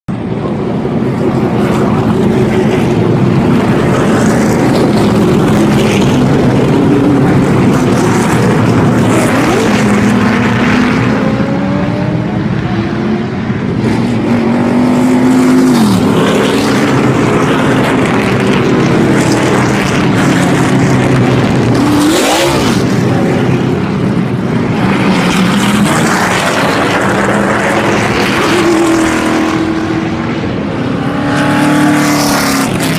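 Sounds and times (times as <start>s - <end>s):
race truck engines passing: 0.1s - 32.9s.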